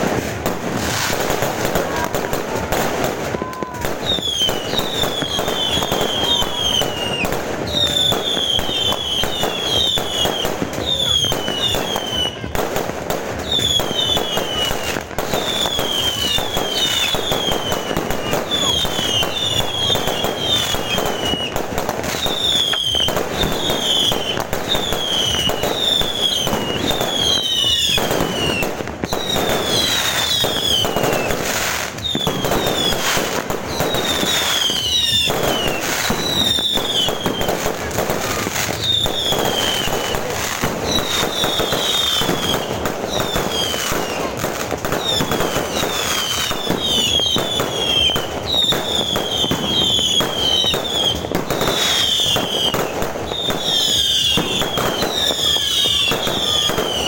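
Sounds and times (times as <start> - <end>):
fireworks crackling bangs: 0.0 - 57.0
fireworks whistles falling in pitch: 0.1 - 57.0.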